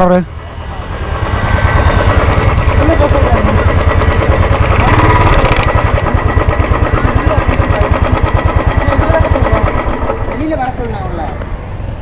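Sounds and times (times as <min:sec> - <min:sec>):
motorcycle engine running: 0:00.2 - 0:12.0.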